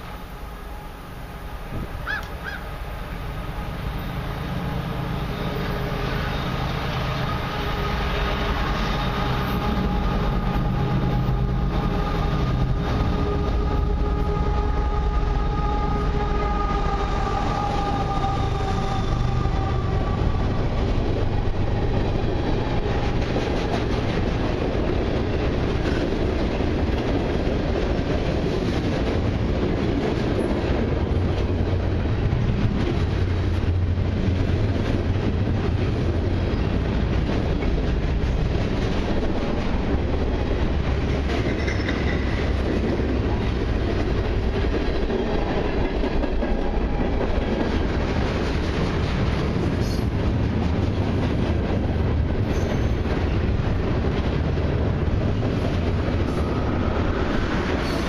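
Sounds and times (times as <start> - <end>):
diesel locomotive engines whining: 0.0 - 58.0.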